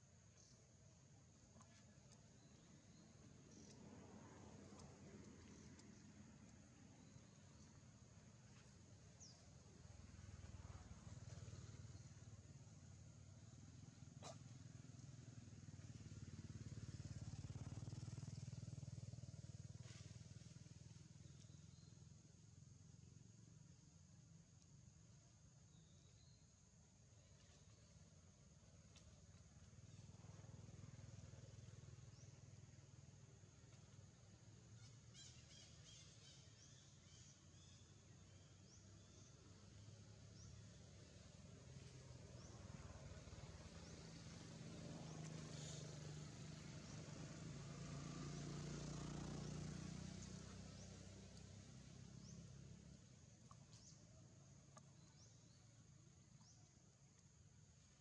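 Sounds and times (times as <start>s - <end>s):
high insect hum: 0.0s - 58.0s.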